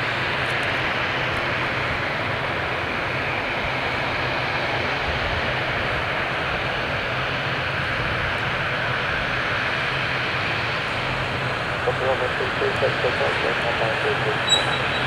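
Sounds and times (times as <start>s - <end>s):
jet engines howling: 0.0s - 15.0s.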